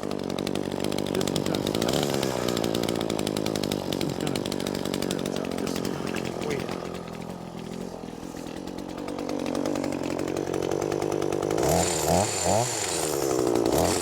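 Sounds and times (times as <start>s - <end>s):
two-stroke power tool revving: 0.0s - 14.0s.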